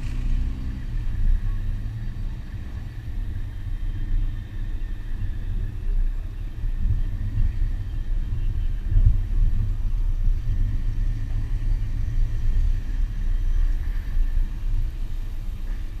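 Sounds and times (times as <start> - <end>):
muffled engine and tyre rumble: 0.0 - 16.0.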